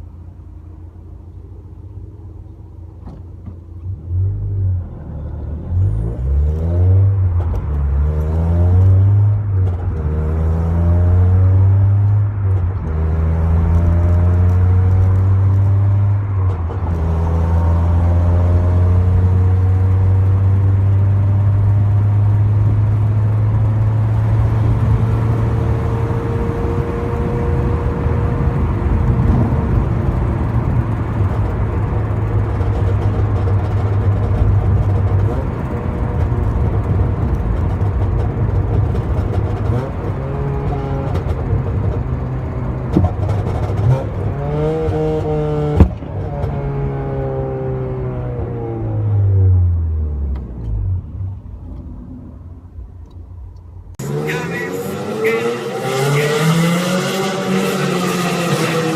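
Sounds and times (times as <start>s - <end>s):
car engine running and revving: 0.0s - 58.9s.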